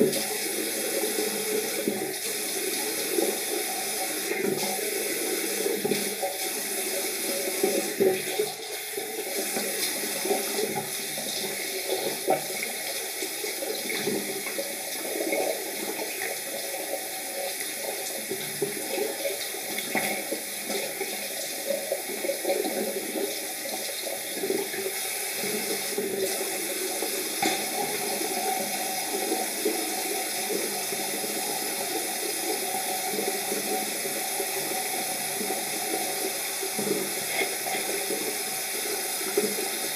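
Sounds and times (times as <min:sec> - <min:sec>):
tap running into sink: 0:00.0 - 0:39.9.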